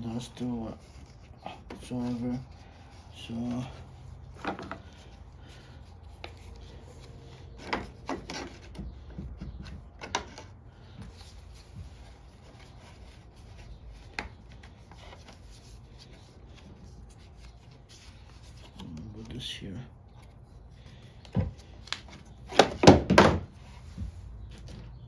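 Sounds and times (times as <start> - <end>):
filter parts rubbing and scraping: 0.0 - 22.8.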